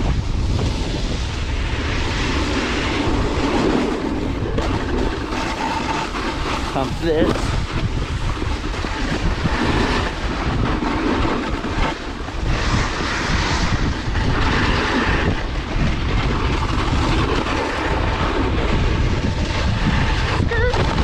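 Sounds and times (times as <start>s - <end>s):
wind buffeting microphone: 0.0s - 21.0s
snowboard scraping snow: 0.3s - 21.0s.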